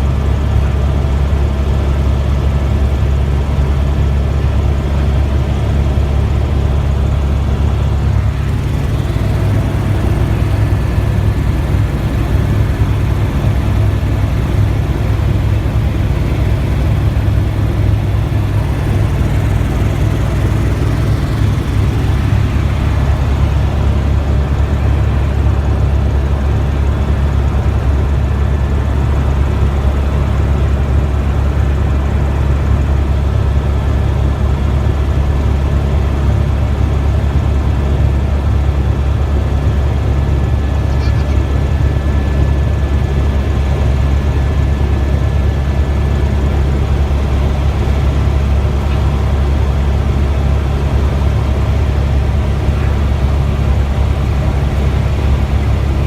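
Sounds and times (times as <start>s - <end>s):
helicopter rotor drone: 0.0s - 56.0s.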